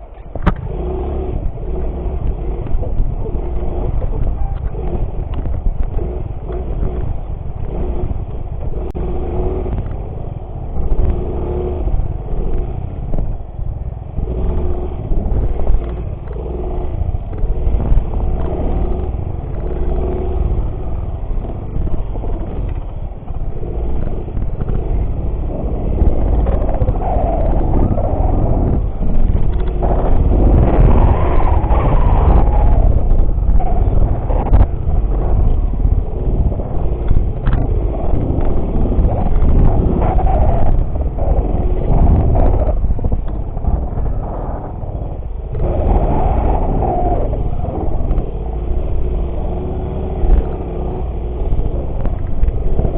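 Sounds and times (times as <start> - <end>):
heavy low rumble: 0.0 - 52.9
motorcycle engine off-road: 0.0 - 52.9.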